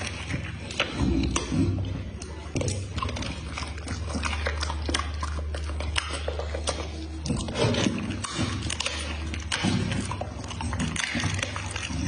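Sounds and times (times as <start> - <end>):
dog chewing food: 0.0 - 12.0.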